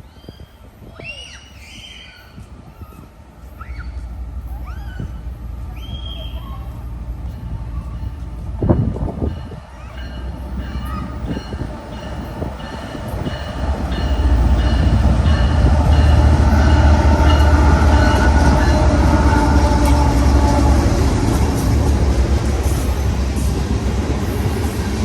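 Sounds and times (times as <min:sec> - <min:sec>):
train passing rumble: 0:01.6 - 0:25.0.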